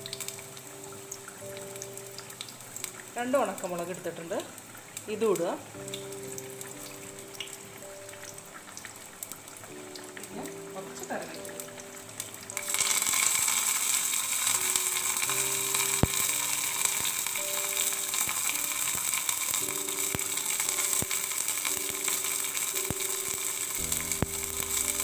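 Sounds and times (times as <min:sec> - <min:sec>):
leaves sizzling in hot oil: 0:00.0 - 0:25.0
soft background music: 0:00.0 - 0:25.0.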